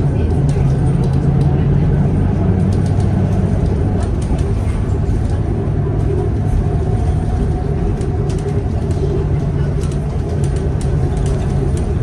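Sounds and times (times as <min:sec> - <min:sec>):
bus engine rumbling: 0:00.0 - 0:12.0
light rattles and clicks: 0:00.2 - 0:01.7, 0:02.6 - 0:12.0.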